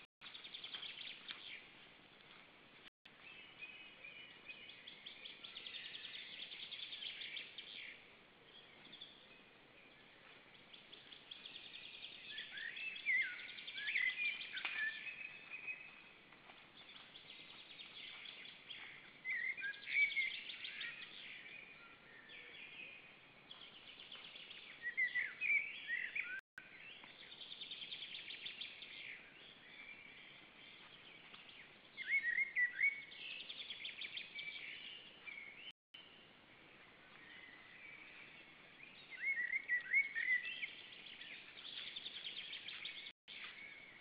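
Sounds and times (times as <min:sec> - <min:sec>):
bird trilling song: 0:03.2 - 0:16.0, 0:16.8 - 0:36.2, 0:37.1 - 0:44.0.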